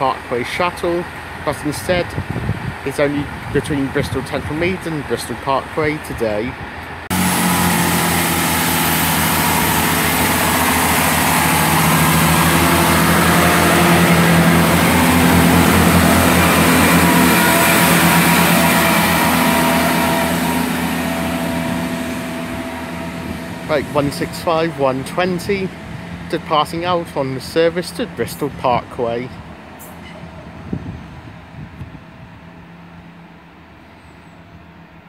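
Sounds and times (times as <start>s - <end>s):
train diesel engines running: 0.0s - 35.0s.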